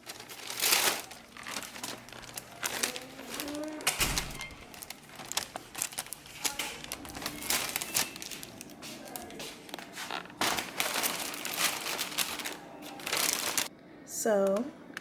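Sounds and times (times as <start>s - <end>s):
packaging crinkling and rustling: 0.0s - 13.7s.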